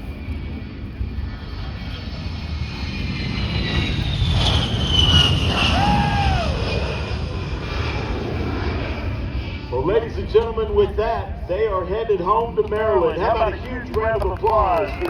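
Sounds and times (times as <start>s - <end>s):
jet aircraft passing overhead: 0.0s - 15.0s.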